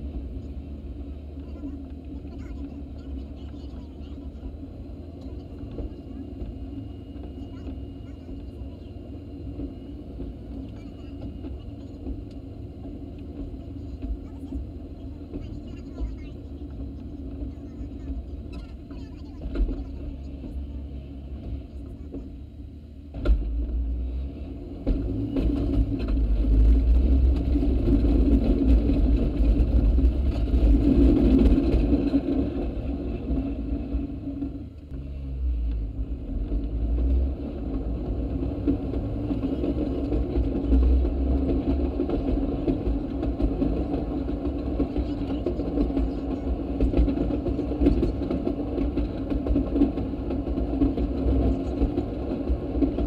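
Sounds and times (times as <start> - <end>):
rail motorcar engine rumbling: 0.0 - 53.0.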